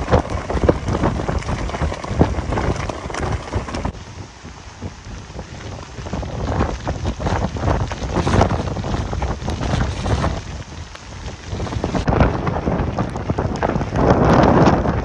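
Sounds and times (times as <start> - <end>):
driving rain: 0.0 - 15.0
strong wind gusts: 0.0 - 15.0
wind buffeting microphone: 0.0 - 15.0.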